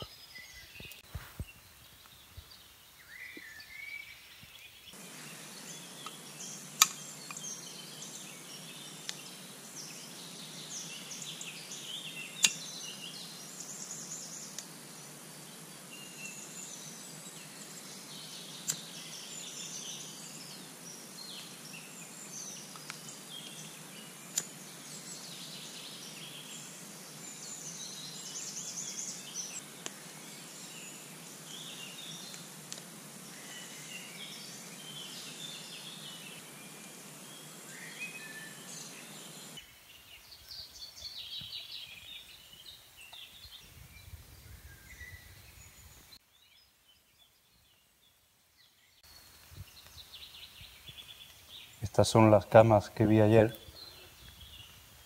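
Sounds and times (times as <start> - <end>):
birds chirping and trilling: 0.0 - 55.0
faint steady hiss: 0.0 - 55.0.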